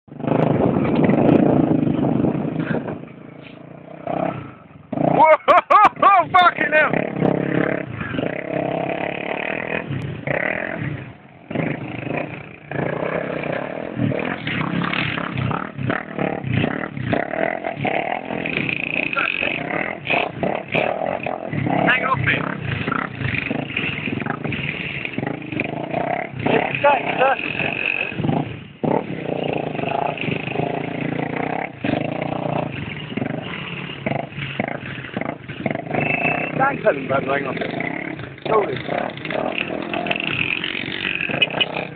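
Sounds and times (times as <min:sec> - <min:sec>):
motorbike engine revving: 0:00.1 - 0:41.9.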